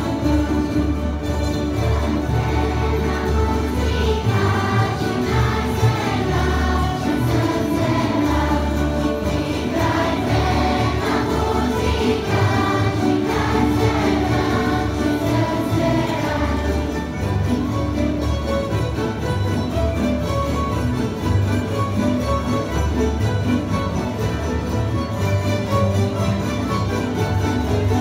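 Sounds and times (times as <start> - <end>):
children's choir singing folk song: 0.0 - 24.7
string orchestra: 0.0 - 28.0.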